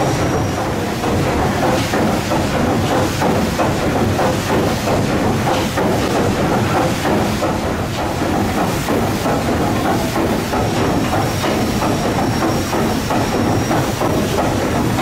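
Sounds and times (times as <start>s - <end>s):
steam engine rhythmic knocks: 0.0s - 15.0s
steam hiss: 0.0s - 15.0s.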